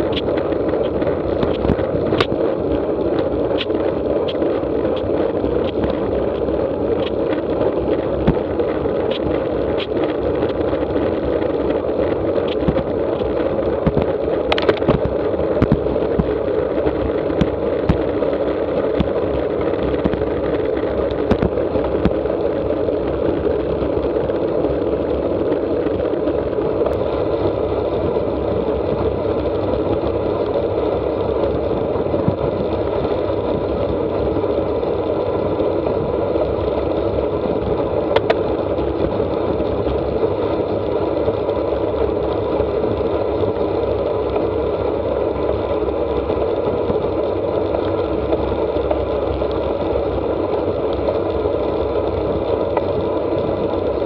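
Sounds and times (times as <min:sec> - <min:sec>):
bicycle tyre noise: 0:00.0 - 0:54.0
clicks and rattles from bike: 0:00.0 - 0:54.0
wind noise: 0:00.0 - 0:54.0.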